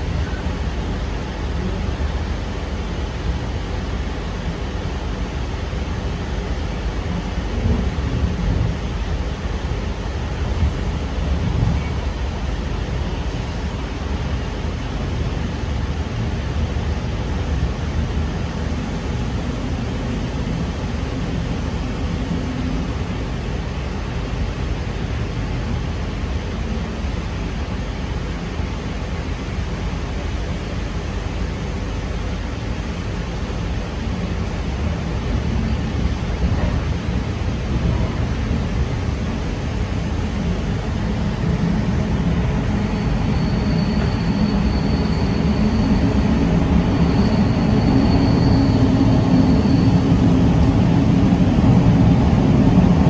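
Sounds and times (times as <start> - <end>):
train wheels rumbling: 0.0 - 53.0.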